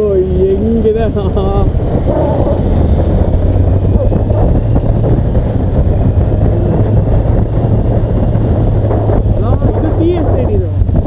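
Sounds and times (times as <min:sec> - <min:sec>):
motorcycle engine cruising: 0:00.0 - 0:11.0
wind rushing over microphone: 0:00.0 - 0:11.0.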